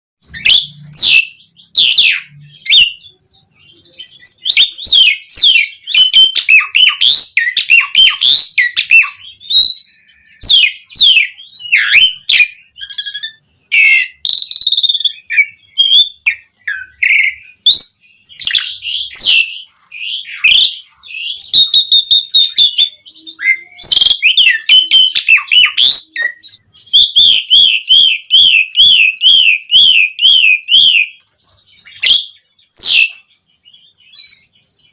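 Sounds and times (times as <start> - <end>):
starling singing: 0.2 - 34.9.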